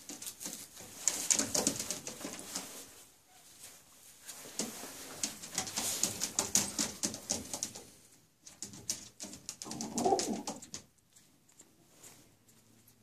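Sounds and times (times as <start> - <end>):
pigeons rustling and scuffing: 0.0 - 11.0.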